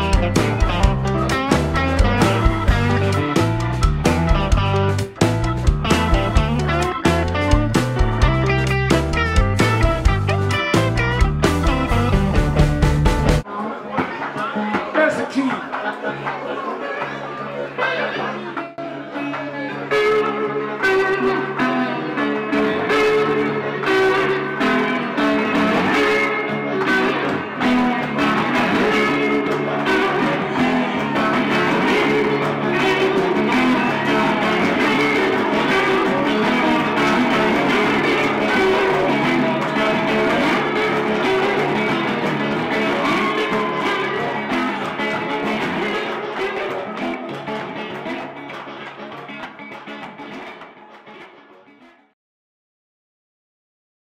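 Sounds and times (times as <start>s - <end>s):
blues guitar: 0.0s - 52.2s.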